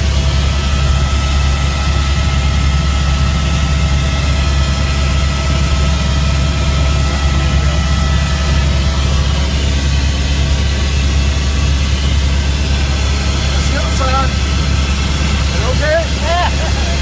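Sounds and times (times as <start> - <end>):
helicopter rotor drone: 0.0 - 17.0
turbine whine: 0.0 - 17.0.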